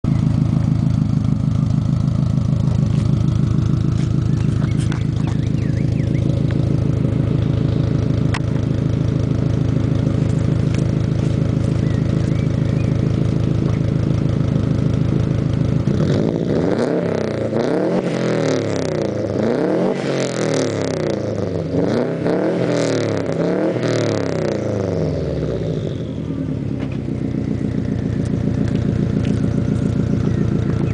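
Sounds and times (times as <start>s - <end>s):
car engine idling with burble: 0.0s - 30.9s
car engine revving: 0.1s - 30.9s.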